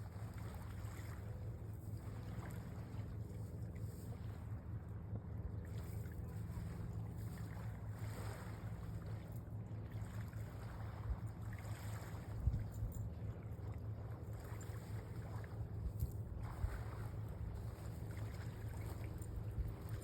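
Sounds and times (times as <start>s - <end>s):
boat motor running: 0.0s - 20.0s
water noise: 0.0s - 20.0s
wind: 0.0s - 20.0s.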